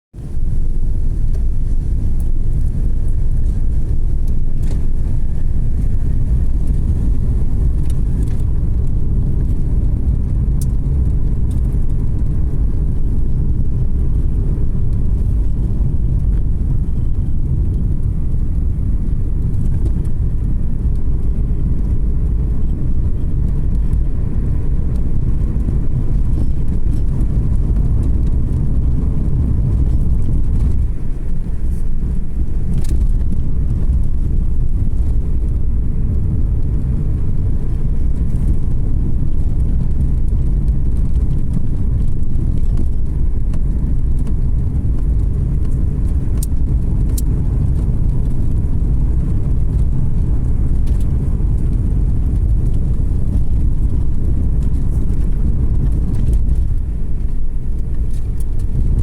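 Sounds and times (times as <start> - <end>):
car engine and tyre rumble: 0.1 - 59.0.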